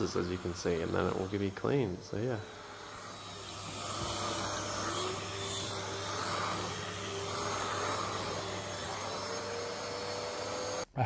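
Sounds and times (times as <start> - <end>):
vacuum cleaner on carpet: 0.0 - 10.9.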